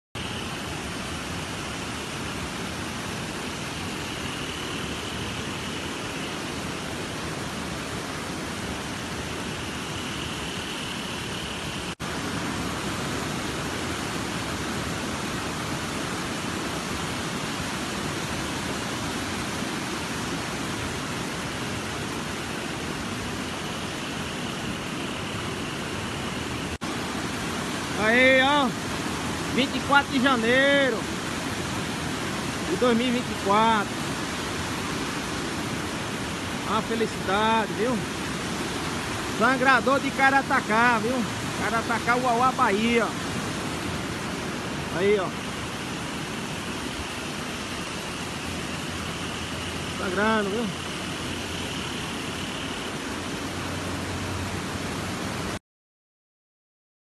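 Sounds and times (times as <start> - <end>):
floodwater rushing over spillway: 0.2 - 55.6.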